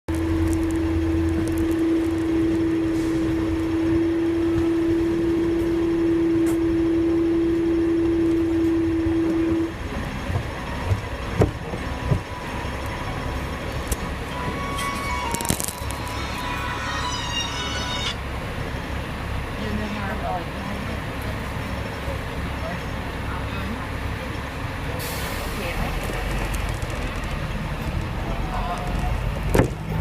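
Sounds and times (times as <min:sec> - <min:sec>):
tram humming: 0:00.1 - 0:30.0
tram rumbling: 0:00.1 - 0:30.0.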